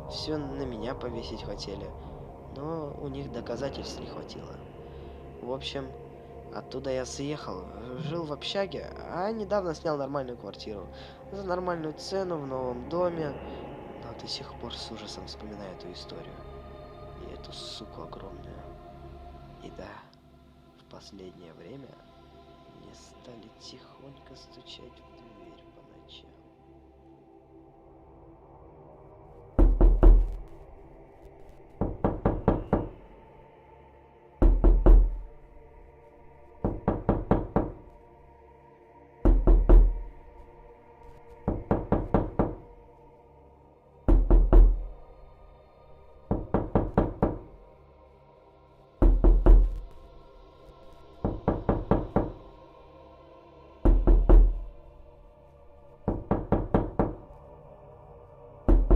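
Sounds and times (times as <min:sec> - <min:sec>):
dark droning music: 0:00.0 - 0:58.9.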